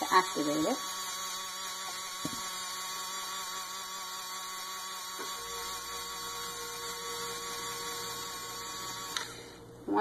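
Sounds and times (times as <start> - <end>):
small electric motor whirring: 0.0 - 9.6.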